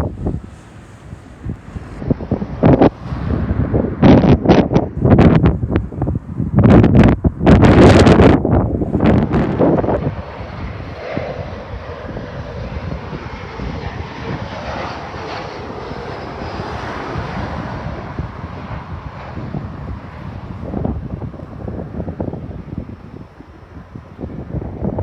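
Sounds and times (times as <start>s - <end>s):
aircraft engine noise: 0.0s - 25.0s
wind buffeting microphone: 0.0s - 25.0s.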